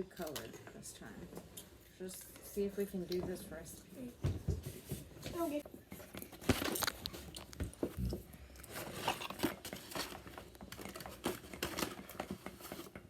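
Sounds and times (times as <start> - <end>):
crinkling and rustling handling: 0.0 - 13.0.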